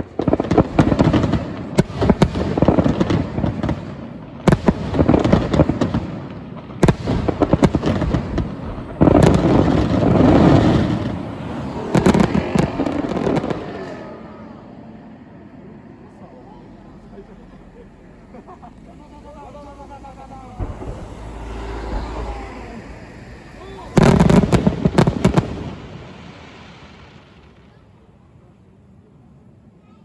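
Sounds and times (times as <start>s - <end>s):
fireworks bursting with bangs: 0.0s - 15.2s, 15.9s - 28.5s
fireworks crackle: 0.0s - 29.4s.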